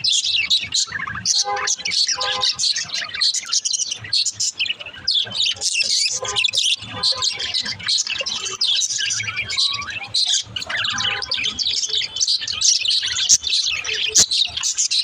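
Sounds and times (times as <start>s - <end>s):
budgerigars chirping and warbling: 0.0s - 15.0s.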